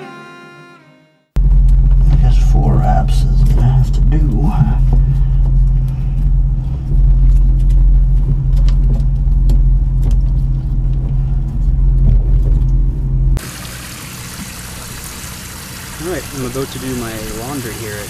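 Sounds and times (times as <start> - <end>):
engine running low hum: 1.4 - 18.0.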